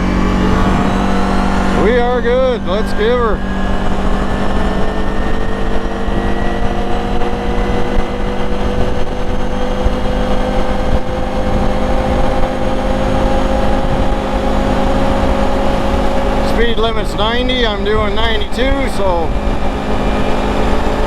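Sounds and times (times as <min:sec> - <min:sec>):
engine accelerating: 0:00.0 - 0:21.0
wind and tyre rumble: 0:00.0 - 0:21.0.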